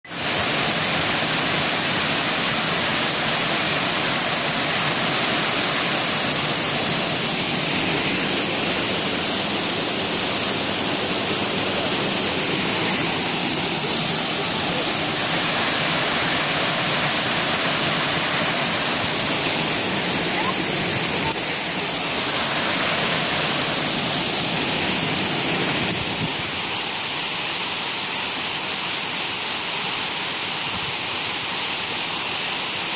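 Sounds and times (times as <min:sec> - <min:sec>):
waterfall and river rushing: 0:00.1 - 0:32.9.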